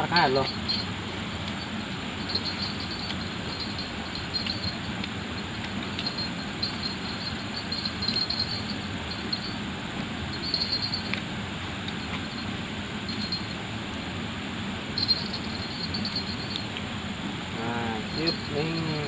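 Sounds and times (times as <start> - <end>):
insects trilling: 0.0 - 19.0
outdoor hiss: 0.0 - 19.0.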